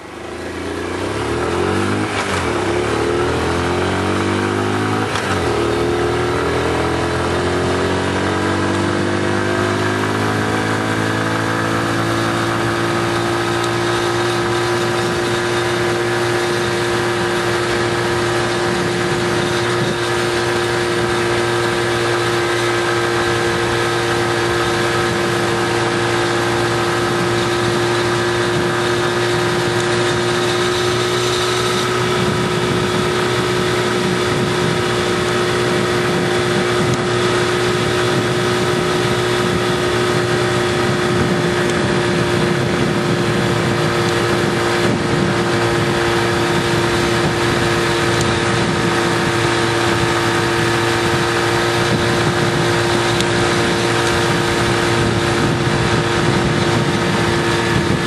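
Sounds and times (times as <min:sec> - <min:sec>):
car engine accelerating: 0:00.0 - 0:58.0
tyre and road noise: 0:00.0 - 0:58.0.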